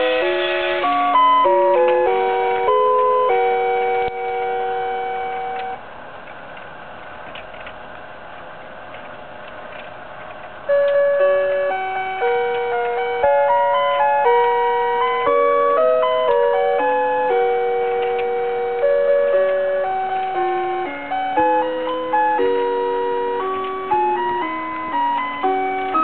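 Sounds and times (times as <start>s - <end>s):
chiming melody: 0.0s - 5.8s, 10.7s - 26.0s.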